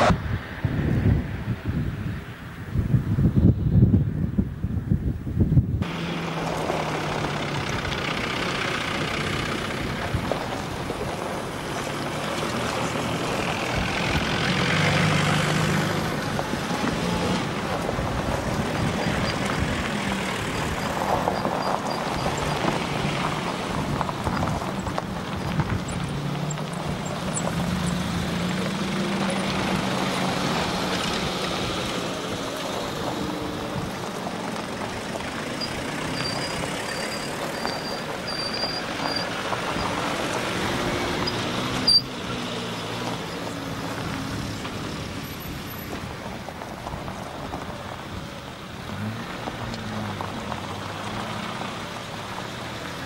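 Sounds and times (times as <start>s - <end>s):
off-road vehicles driving past: 0.0s - 53.0s.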